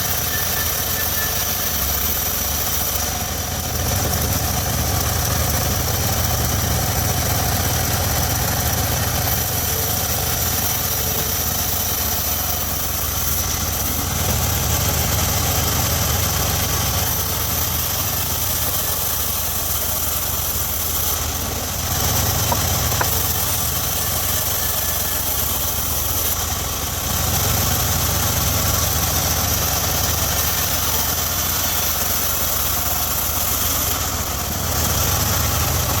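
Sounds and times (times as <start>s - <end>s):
sawmill engine running: 0.0s - 36.0s.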